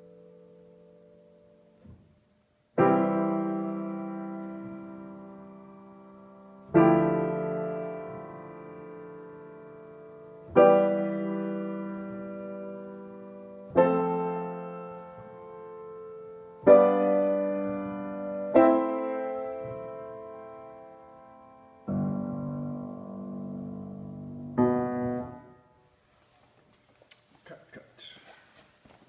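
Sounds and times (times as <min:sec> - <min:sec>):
piano chords ringing: 0:00.0 - 0:26.0.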